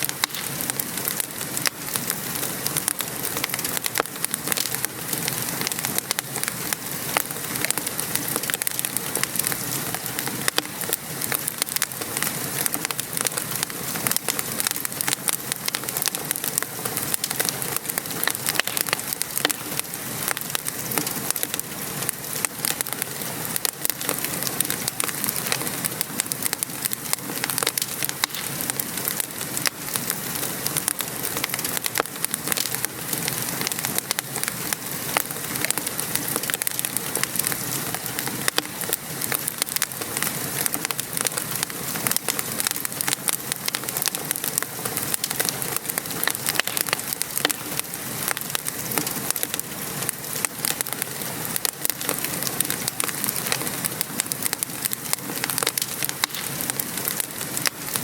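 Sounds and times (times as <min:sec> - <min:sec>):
rain patter: 0:00.0 - 0:58.0
wood fire crackling: 0:00.0 - 0:58.0.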